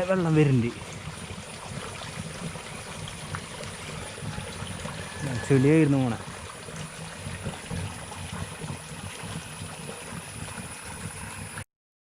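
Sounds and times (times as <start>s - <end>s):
water flowing from drain pipe: 0.0s - 11.6s.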